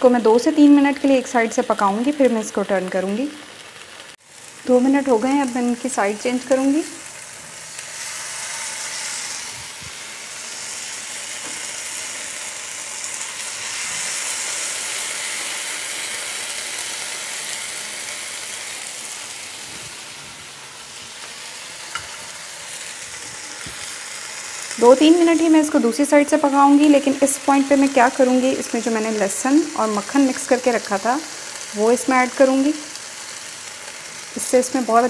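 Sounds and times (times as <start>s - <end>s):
chicken sizzling in frying pan: 0.0s - 35.0s.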